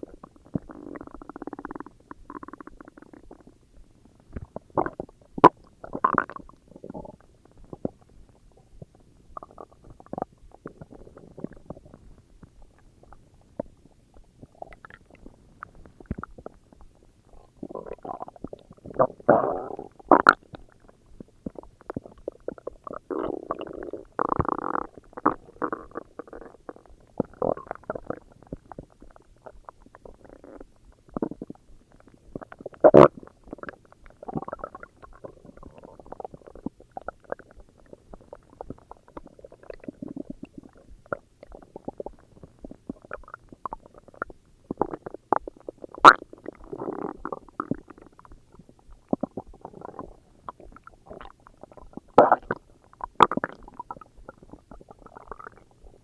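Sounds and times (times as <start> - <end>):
stomach growling: 0.0 - 56.0.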